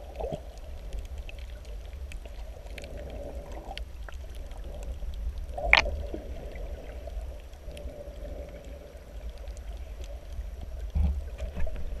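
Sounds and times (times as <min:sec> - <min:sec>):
underwater water surging rumble: 0:00.0 - 0:12.0
faint scattered clicks: 0:00.1 - 0:12.0.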